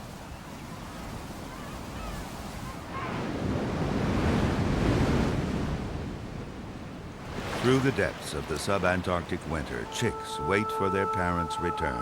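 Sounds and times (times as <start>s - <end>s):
surf washing in: 0.0s - 10.6s
wind: 0.0s - 12.0s.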